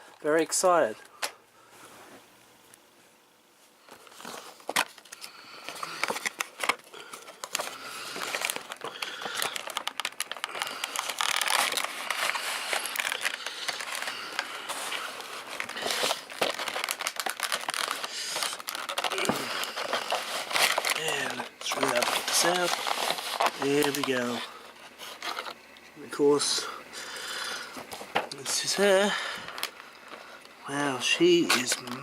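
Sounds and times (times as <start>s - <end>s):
packaging crinkling and scraping: 3.8s - 32.0s.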